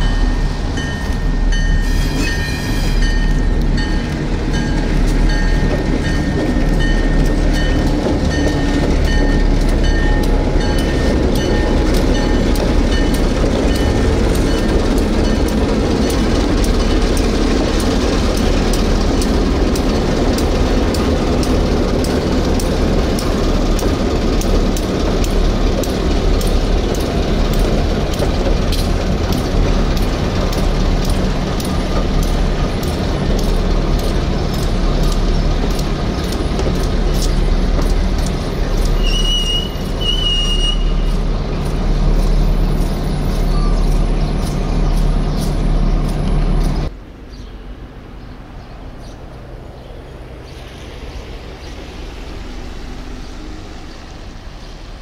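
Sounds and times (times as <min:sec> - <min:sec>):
wheels clacking over rail joints: 0:00.0 - 0:47.0
train rumbling: 0:00.0 - 0:55.0.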